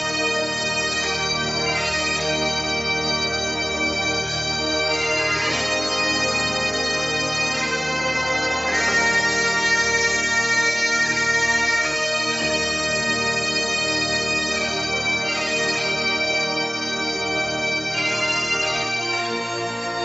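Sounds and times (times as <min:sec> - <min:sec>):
bagpipes playing slow tune: 0:00.0 - 0:20.0.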